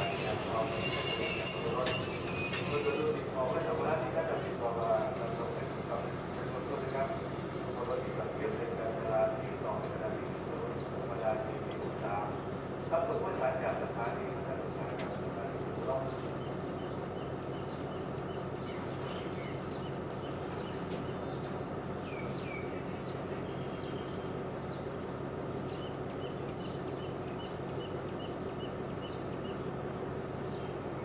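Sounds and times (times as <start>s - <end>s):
train diesel engine idling: 0.0s - 31.0s
small birds chirping: 0.1s - 13.8s, 14.8s - 31.0s.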